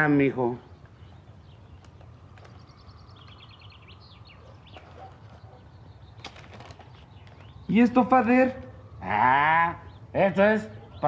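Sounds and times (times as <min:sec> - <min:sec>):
faint bird chirping: 0:00.2 - 0:11.0.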